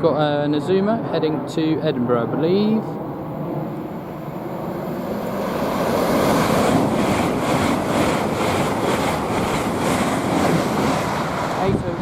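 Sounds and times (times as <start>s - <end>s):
electric train passing at speed: 0.0s - 12.0s
wind on microphone: 2.1s - 12.0s.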